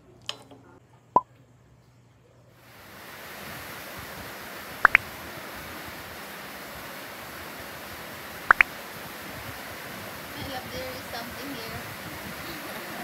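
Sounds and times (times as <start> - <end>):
steady hiss: 2.6 - 13.0.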